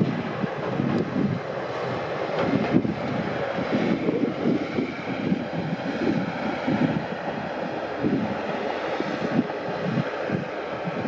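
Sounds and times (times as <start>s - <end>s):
diesel railcars running past: 0.0s - 11.0s
wind buffeting microphone: 0.0s - 11.0s.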